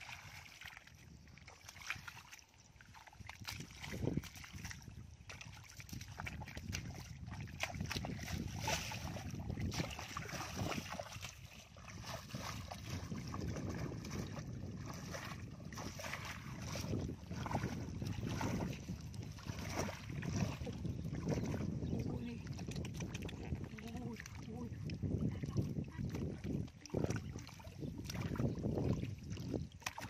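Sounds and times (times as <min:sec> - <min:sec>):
feet sloshing through water: 0:00.0 - 0:30.0
wind rumbling on microphone: 0:00.0 - 0:30.0.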